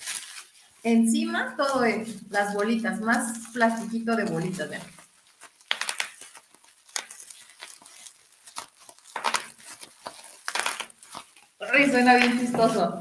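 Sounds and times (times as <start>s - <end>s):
bubble wrap crackling and popping: 0.0s - 13.0s.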